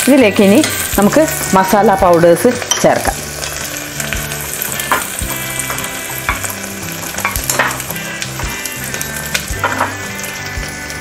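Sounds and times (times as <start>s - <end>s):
onions and spices sizzling in oil: 0.0s - 11.0s.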